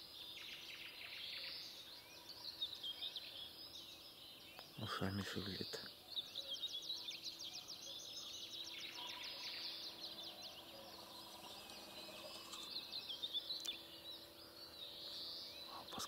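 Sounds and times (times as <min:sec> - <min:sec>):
small birds singing: 0:00.0 - 0:16.0.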